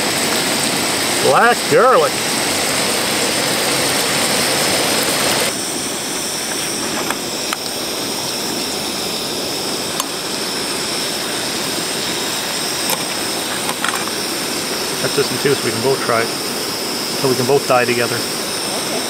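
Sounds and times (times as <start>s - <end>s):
camp stove burner running: 0.0s - 19.0s.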